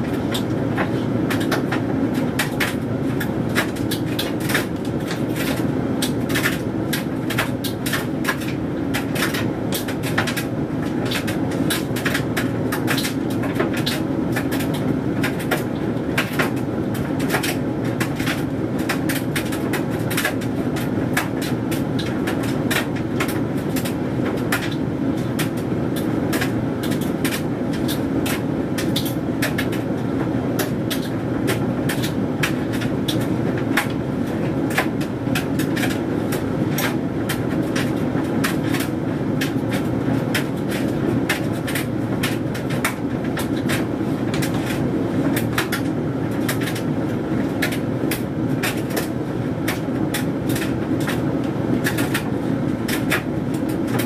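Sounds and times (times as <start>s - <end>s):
clothes tumbling clicks and taps: 0.0s - 29.9s, 30.6s - 54.0s
tumble dryer motor and drum hum: 0.0s - 54.0s.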